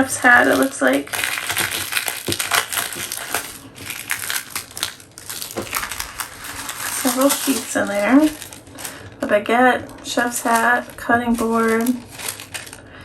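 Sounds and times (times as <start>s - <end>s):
paper packaging crinkling: 0.0s - 13.0s.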